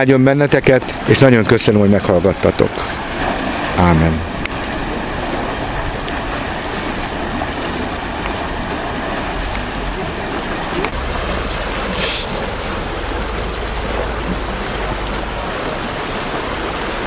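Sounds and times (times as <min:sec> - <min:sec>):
waves washing on rocky shore: 0:00.6 - 0:17.0
wind rumbling on microphone: 0:00.8 - 0:17.0.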